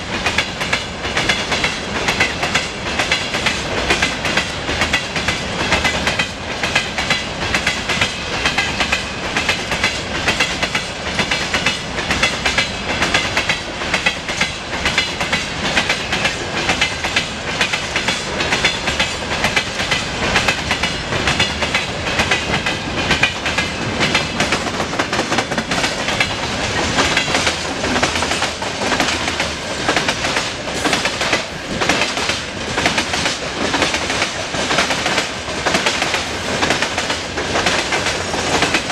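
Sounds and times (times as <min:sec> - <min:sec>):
freight train rumbling and rattling: 0:00.0 - 0:38.9
wheels clickety-clack on rail joints: 0:00.0 - 0:38.9.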